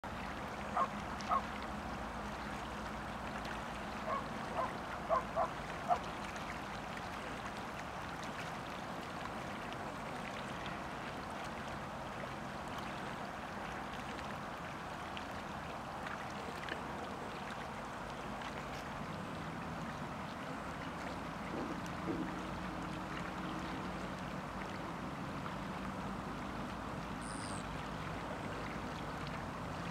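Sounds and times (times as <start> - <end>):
rippling water: 0.0 - 29.9.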